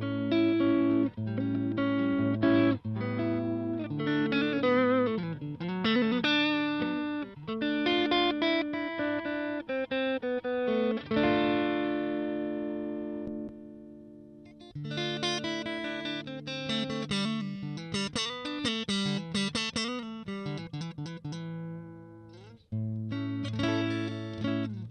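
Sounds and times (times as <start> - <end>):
electric guitar chords and riffs: 0.0 - 24.9.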